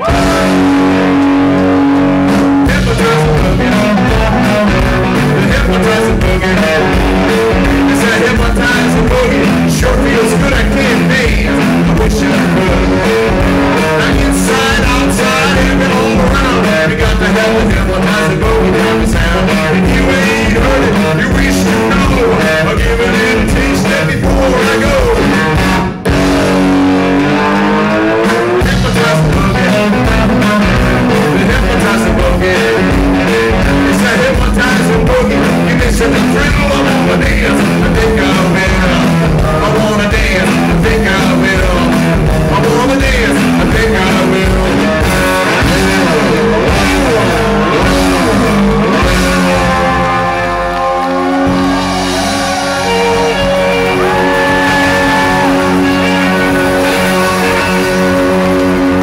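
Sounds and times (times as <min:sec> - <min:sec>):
blues-rock band playing: 0:00.0 - 0:59.0
electric guitar leading: 0:00.0 - 0:59.0.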